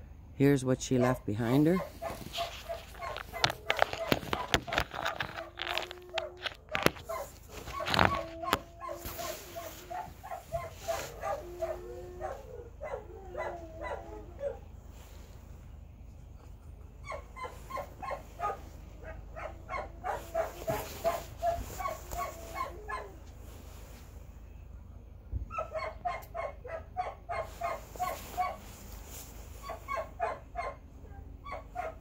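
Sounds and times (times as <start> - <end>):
dog yapping: 1.0 - 14.7, 16.9 - 23.3, 25.5 - 32.0.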